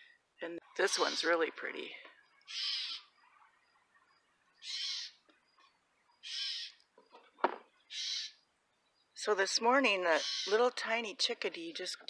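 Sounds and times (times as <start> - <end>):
bird calling: 0.8 - 10.8.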